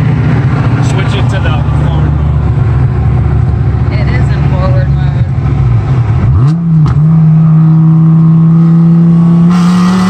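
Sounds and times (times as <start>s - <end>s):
car engine revving in cabin: 0.1s - 10.0s.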